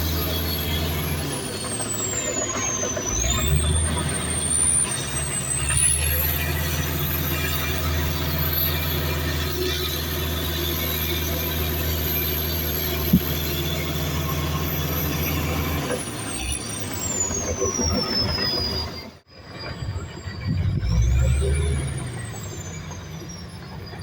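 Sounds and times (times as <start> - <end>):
diesel engine running: 0.0 - 24.0
high squeal sliding down: 0.0 - 24.0.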